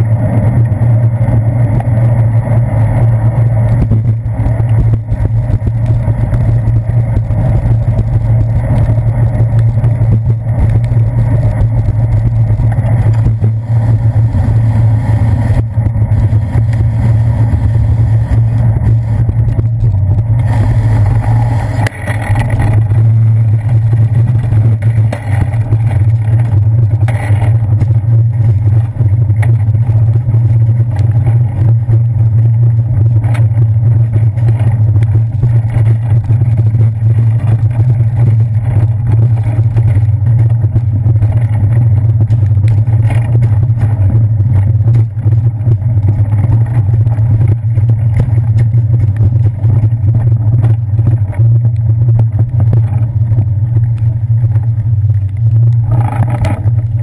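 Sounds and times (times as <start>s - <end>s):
bicycle road rumble on wet pavement: 0.0s - 57.0s
wind drone: 0.0s - 57.0s.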